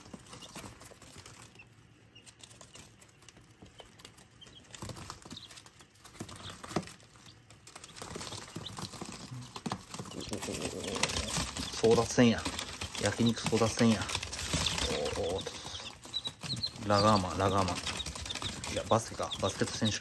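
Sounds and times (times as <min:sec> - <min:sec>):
chicks pattering on newspaper: 0:00.0 - 0:20.0
paper rustling: 0:02.4 - 0:20.0.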